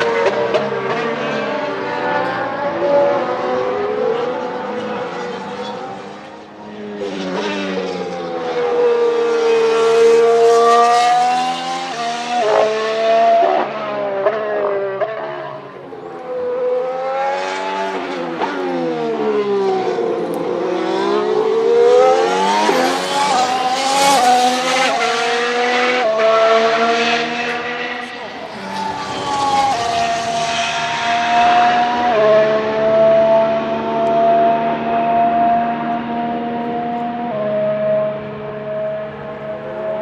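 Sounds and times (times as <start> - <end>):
racing car engine revving: 0.0 - 40.0.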